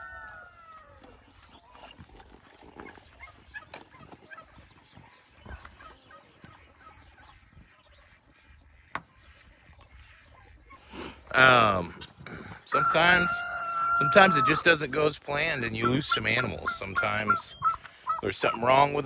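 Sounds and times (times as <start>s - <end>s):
poultry and livestock calls: 0.0s - 19.0s.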